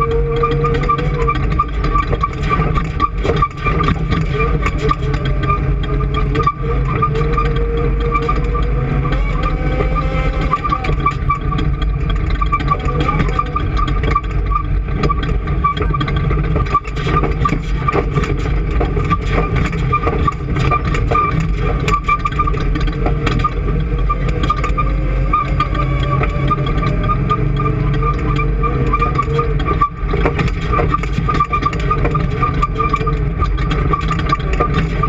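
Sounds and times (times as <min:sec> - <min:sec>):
high engine whine: 0:00.0 - 0:35.0
vehicle engine droning: 0:00.0 - 0:35.0.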